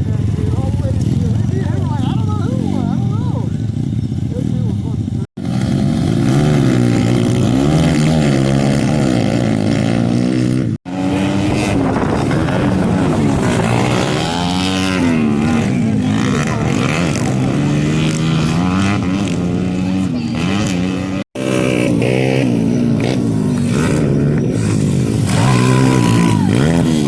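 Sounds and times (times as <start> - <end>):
pit bike engines revving: 0.0 - 27.0.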